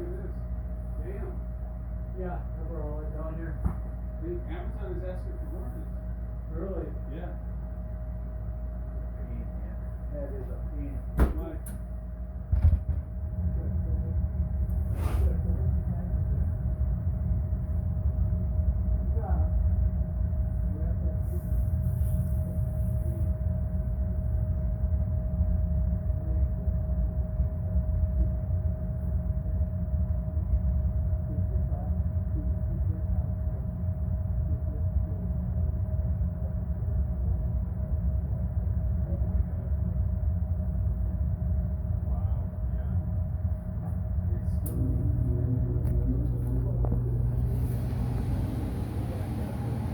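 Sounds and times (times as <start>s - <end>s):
furnace rumble: 0.0s - 49.9s
furnace whine: 0.0s - 49.9s.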